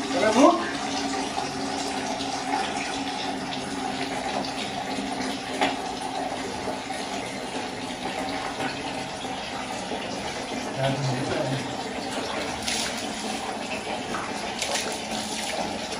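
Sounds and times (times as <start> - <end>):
water running from a tap: 0.0 - 15.9.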